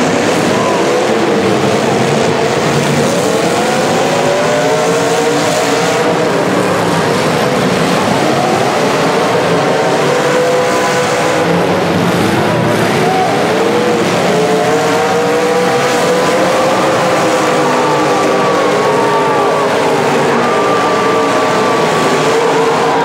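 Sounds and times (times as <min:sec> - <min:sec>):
car engines revving hard: 0:00.0 - 0:23.0.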